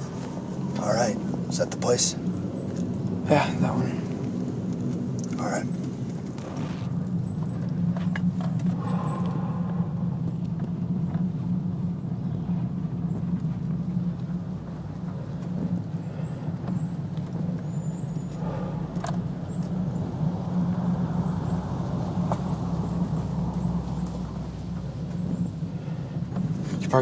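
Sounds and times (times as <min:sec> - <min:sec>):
car driving drone: 0:00.0 - 0:27.0.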